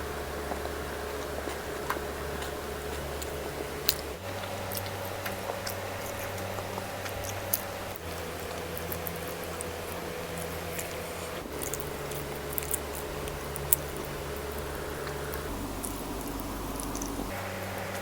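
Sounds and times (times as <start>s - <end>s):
steady low hum: 0.0s - 18.0s
mouth clicks: 1.2s - 18.0s
person chewing: 1.2s - 18.0s.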